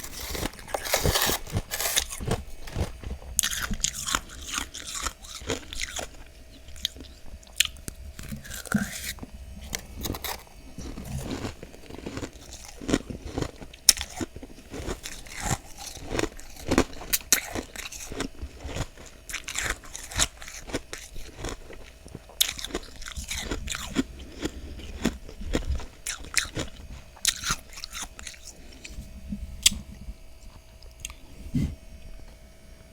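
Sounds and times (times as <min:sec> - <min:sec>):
chewing crunchy frost: 0:00.0 - 0:31.8.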